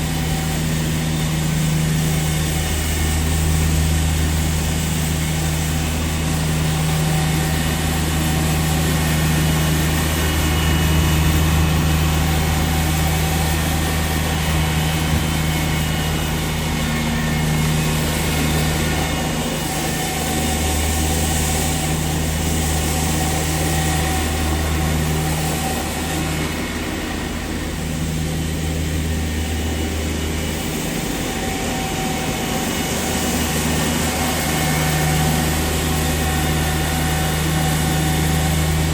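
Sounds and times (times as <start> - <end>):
low engine hum: 0.0 - 38.9.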